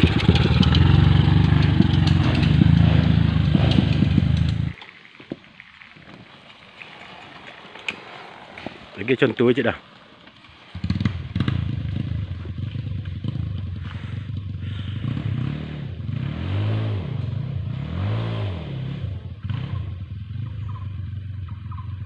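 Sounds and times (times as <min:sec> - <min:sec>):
motorcycle engine revving: 0:00.0 - 0:04.8, 0:07.7 - 0:22.0.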